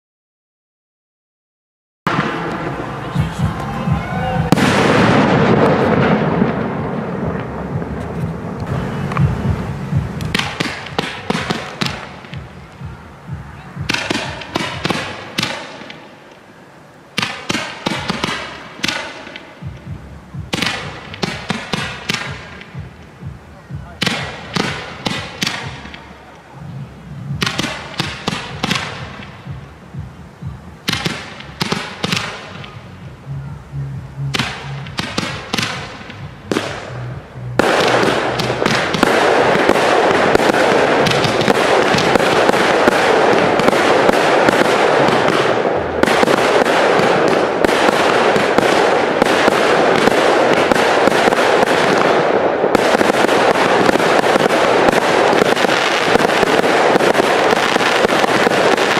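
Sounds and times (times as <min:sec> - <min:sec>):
fireworks firing: 0:02.1 - 0:26.4, 0:27.3 - 0:30.1, 0:30.8 - 0:32.9, 0:34.3 - 0:37.0, 0:37.6 - 0:58.9.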